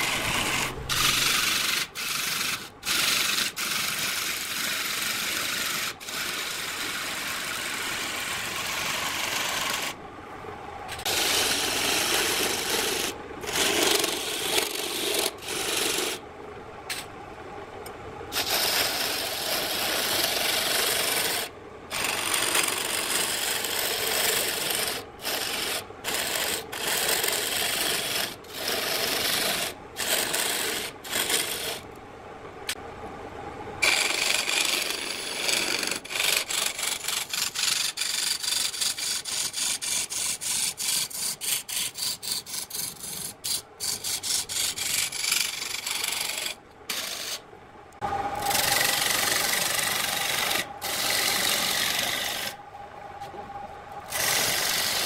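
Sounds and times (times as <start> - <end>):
sanding wood on a lathe: 0.0 - 10.0, 10.9 - 16.2, 18.3 - 31.8, 33.8 - 47.4, 48.4 - 52.6, 54.1 - 55.0.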